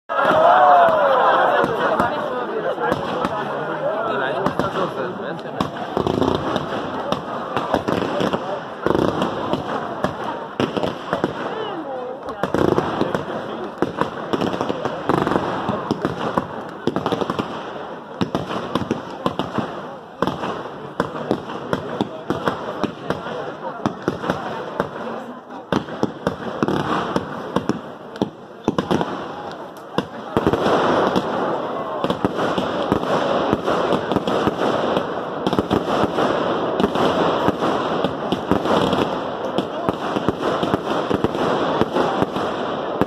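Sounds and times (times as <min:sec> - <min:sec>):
fireworks pops and crackles: 0:00.2 - 0:03.6, 0:04.2 - 0:43.0.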